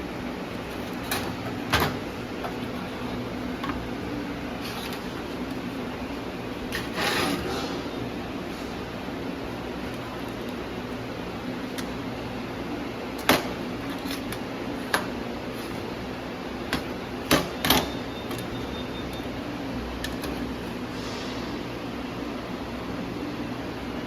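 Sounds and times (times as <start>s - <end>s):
laser welding machine hum: 0.0s - 24.0s.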